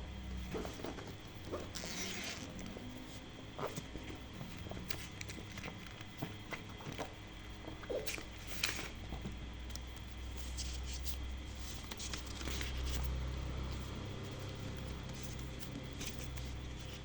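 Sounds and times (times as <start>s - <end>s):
low steady hum: 0.0s - 17.0s
handling clicks and rustles: 0.4s - 17.0s.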